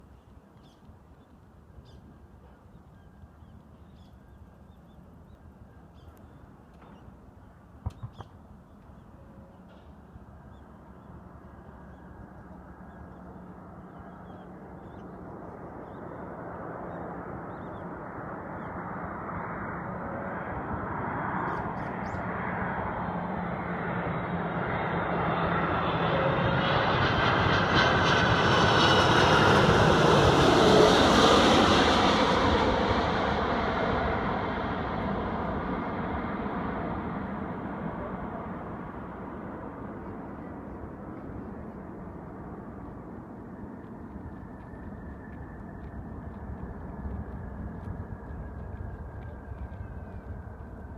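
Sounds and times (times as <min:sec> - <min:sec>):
airliner engines overhead: 0:00.0 - 0:50.9.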